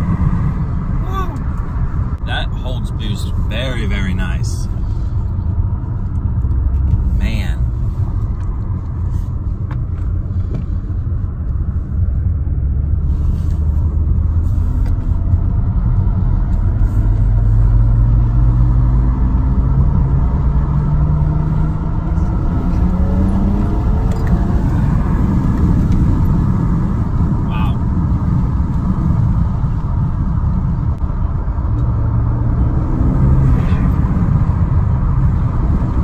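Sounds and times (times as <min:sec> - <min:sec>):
car engine accelerating: 0:00.0 - 0:36.0
constant low rumble: 0:00.0 - 0:36.0.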